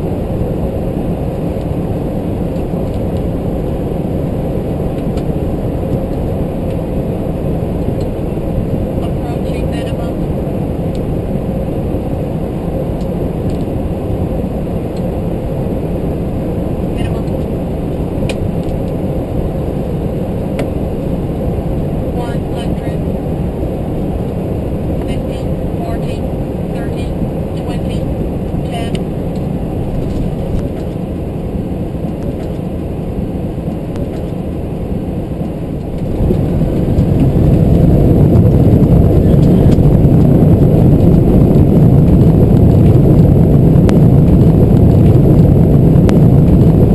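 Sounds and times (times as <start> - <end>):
airflow and engine rush: 0.0 - 46.9.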